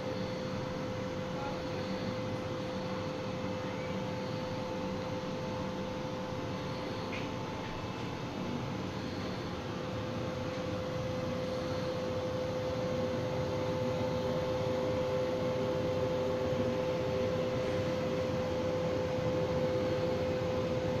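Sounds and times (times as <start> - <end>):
inverter hum with fan rush: 0.0 - 21.0.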